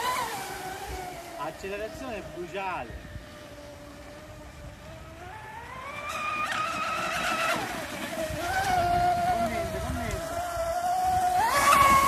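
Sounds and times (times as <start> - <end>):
rc speedboat motor whining: 0.0 - 12.0.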